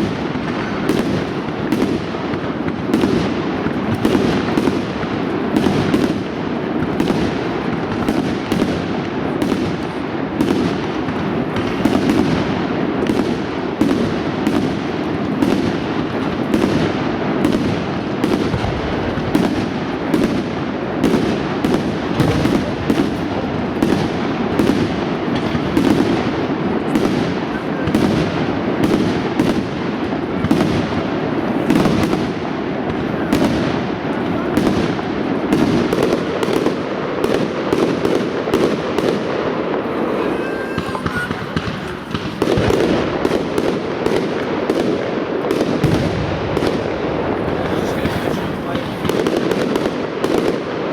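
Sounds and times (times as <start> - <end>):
fireworks bursting: 0.0 - 50.9.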